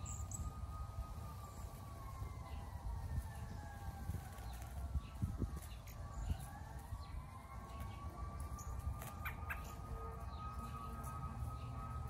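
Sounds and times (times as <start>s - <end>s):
sharp bird calls: 0.0s - 0.6s, 2.4s - 12.0s
distant siren wailing: 0.0s - 12.0s.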